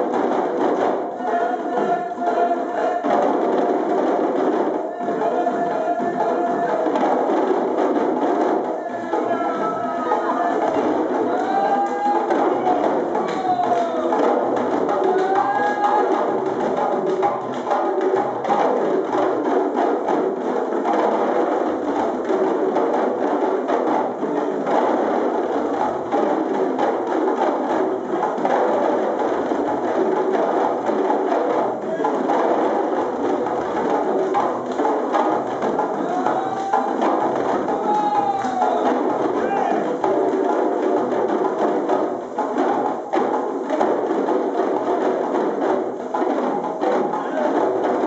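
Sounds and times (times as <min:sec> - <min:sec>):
hand drums ensemble: 0:00.0 - 0:48.0.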